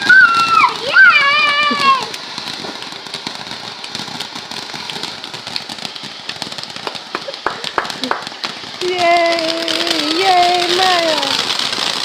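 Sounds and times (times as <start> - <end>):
firework hissing and crackling: 0.0 - 12.0
firework pops: 0.0 - 12.0.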